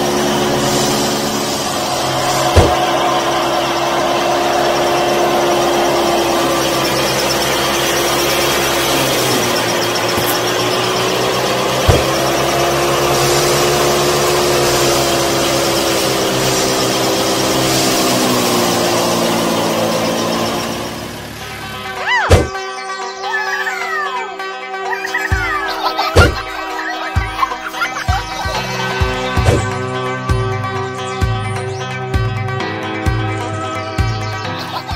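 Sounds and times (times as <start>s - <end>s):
small electric motor whining: 0.0s - 31.9s.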